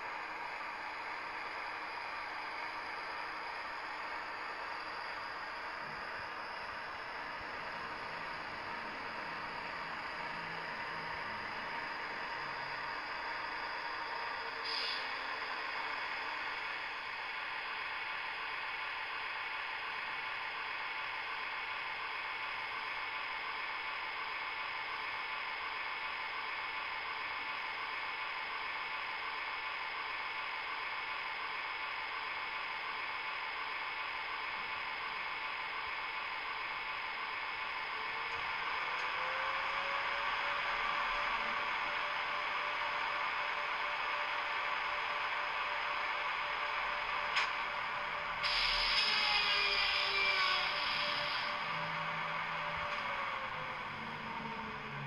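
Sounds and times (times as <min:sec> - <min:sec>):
model locomotive running hum: 0:00.0 - 0:55.0.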